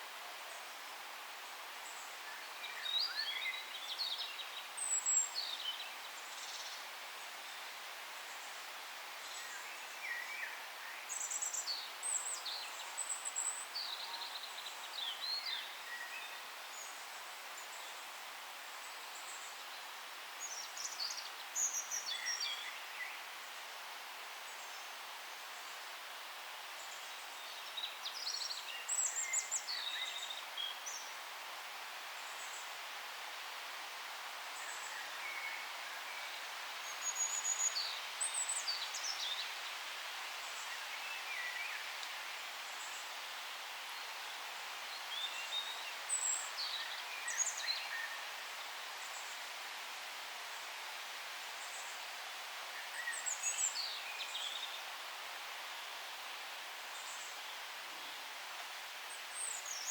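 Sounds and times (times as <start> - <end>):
faint forest background hiss: 0.0 - 59.9.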